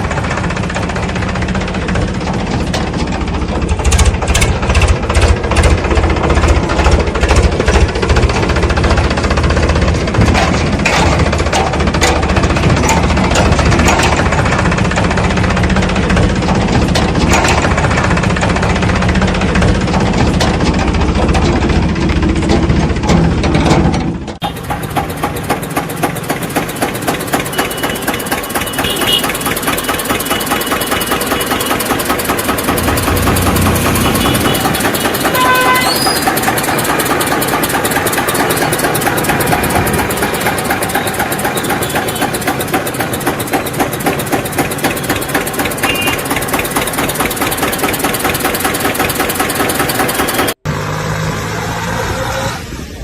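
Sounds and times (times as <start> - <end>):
engine chugging: 0.0 - 53.0.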